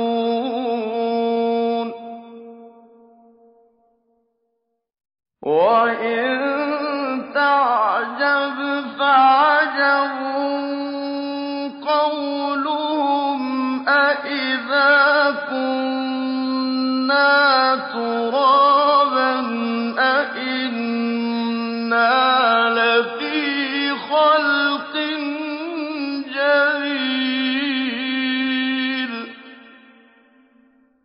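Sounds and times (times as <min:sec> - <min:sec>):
man chanting recitation: 0:00.0 - 0:02.4, 0:05.4 - 0:29.8.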